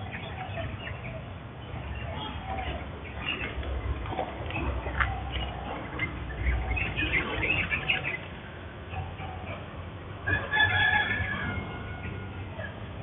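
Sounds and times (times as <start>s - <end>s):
low steady background rumble: 0.0s - 13.0s.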